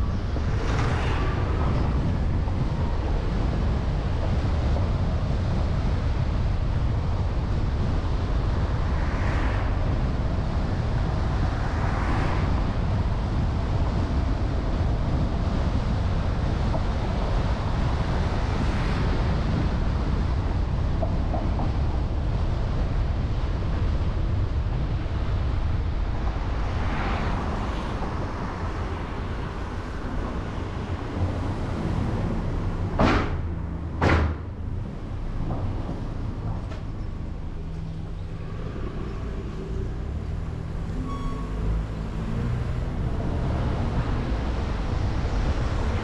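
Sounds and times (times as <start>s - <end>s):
street ambience rumble: 0.0s - 46.0s.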